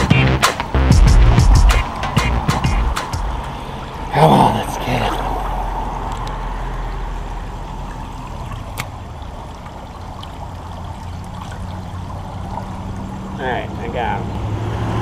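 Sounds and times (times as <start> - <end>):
river current running: 0.4 - 15.0
traffic rumble on bridge: 0.4 - 15.0.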